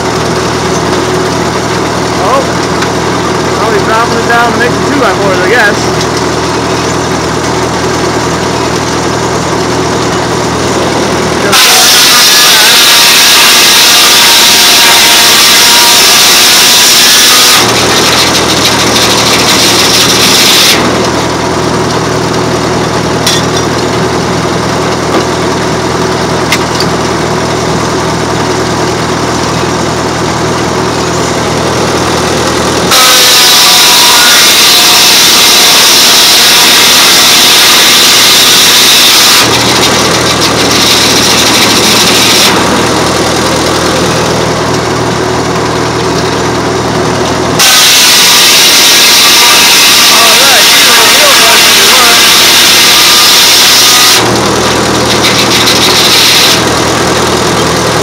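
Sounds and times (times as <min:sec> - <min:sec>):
sawmill machinery humming: 0:00.0 - 0:58.0
saw blade whining through wood: 0:01.6 - 0:23.9, 0:30.8 - 0:46.4, 0:47.5 - 0:58.0.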